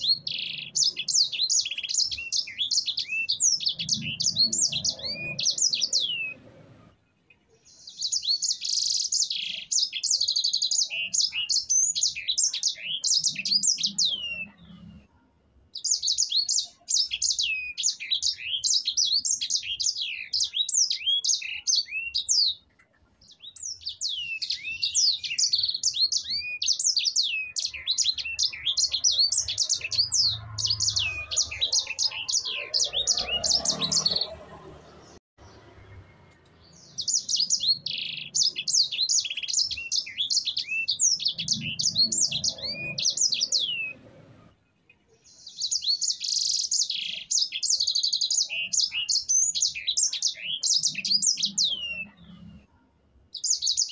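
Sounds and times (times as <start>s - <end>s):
finch singing: 0.0s - 6.9s, 7.6s - 15.1s, 15.8s - 44.2s, 45.2s - 52.6s.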